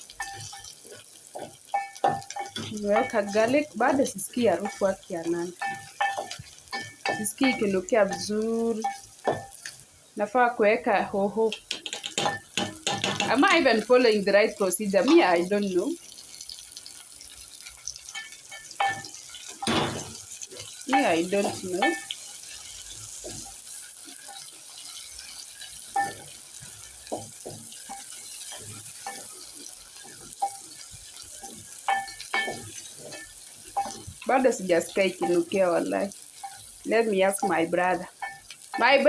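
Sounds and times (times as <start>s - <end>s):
spoon stirring and knocking pot: 0.0s - 9.8s, 10.9s - 14.0s, 18.0s - 39.0s
onions and garlic sizzling in a pot: 0.0s - 39.0s.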